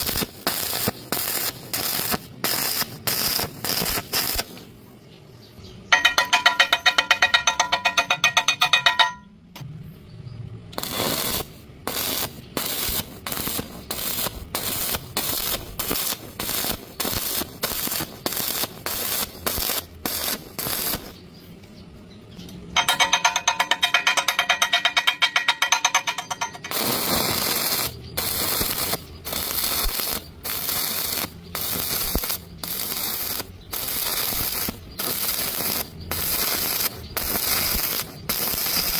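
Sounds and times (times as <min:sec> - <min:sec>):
welding arc buzzing: 0:00.0 - 0:04.7, 0:10.7 - 0:21.2, 0:22.8 - 0:38.9
welding arc crackling: 0:00.0 - 0:04.8, 0:10.7 - 0:21.2, 0:22.8 - 0:38.9.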